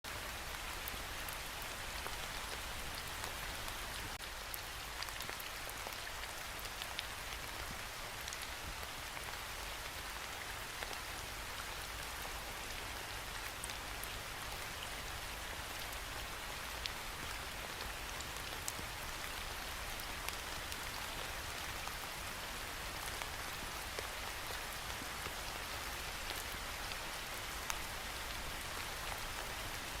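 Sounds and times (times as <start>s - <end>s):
steady rain hiss: 0.1s - 30.0s.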